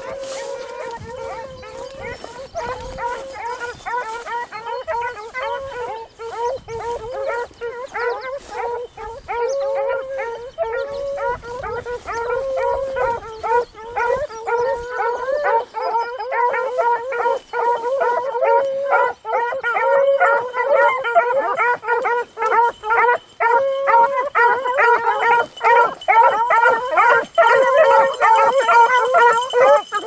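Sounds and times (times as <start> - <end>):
hounds baying: 0.0 - 30.0.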